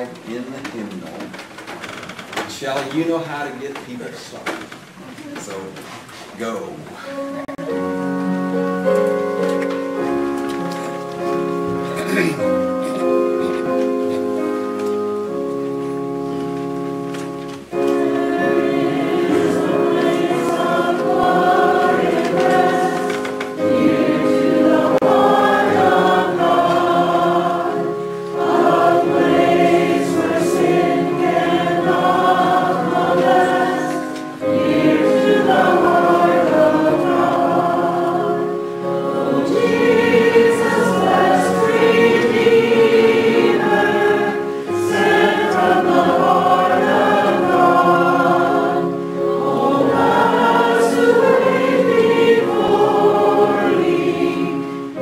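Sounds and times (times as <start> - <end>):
keyboard chords: 6.8 - 55.0
congregation singing a hymn: 7.0 - 55.0.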